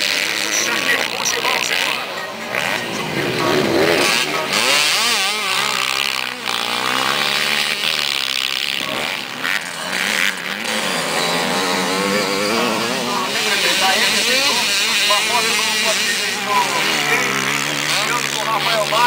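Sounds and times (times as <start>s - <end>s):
dirt bike engines racing: 0.0s - 19.0s.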